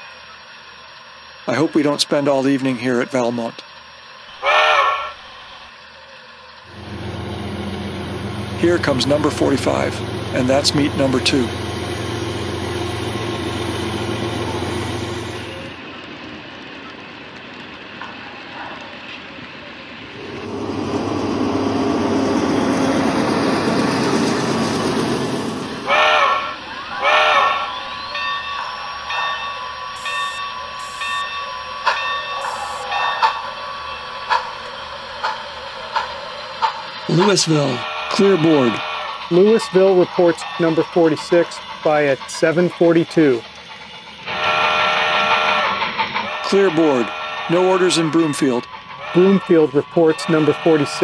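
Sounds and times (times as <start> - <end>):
steady steam hiss: 0.0 - 23.9, 24.6 - 51.0
diesel locomotive engine hum: 0.0 - 51.0
freight cars rolling by: 0.0 - 51.0
steam exhaust chuffs: 0.0 - 51.0.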